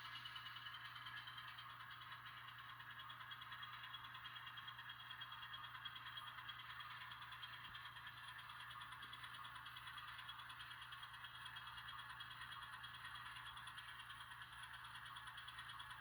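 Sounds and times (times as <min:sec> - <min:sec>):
model train diesel engine sound: 0:00.0 - 0:16.0.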